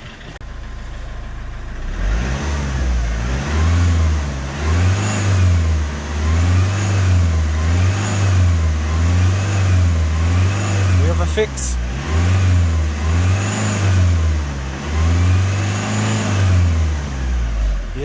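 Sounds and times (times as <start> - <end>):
diesel engine idling and revving: 0.0 - 18.0.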